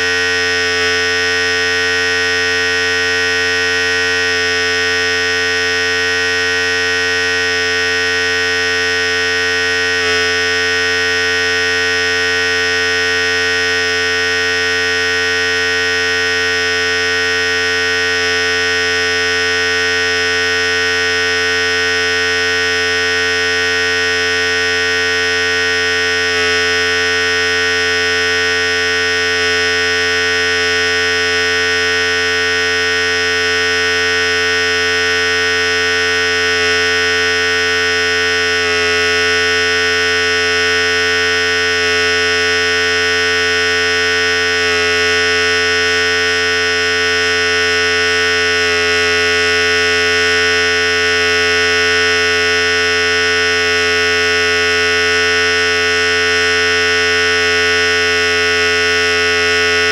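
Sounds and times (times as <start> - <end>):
electric hair clipper buzzing: 0.0 - 59.9.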